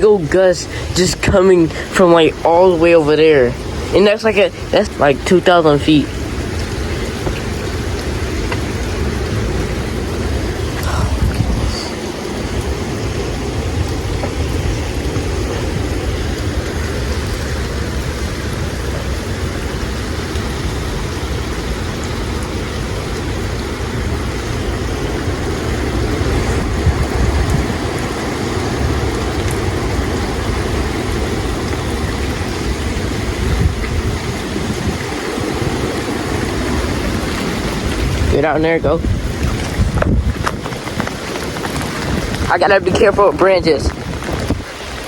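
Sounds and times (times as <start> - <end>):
heavy rain: 0.0 - 45.0
wind buffeting microphone: 0.0 - 45.0.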